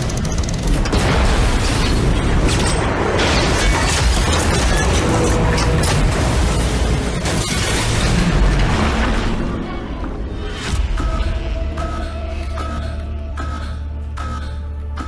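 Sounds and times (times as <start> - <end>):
dramatic music: 0.0 - 15.0.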